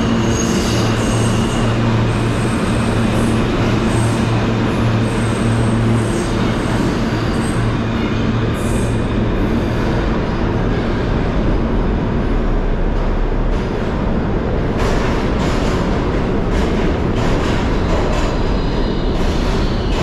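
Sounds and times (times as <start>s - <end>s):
low train hum: 0.0s - 20.0s
train wheels rolling on rail: 0.0s - 20.0s.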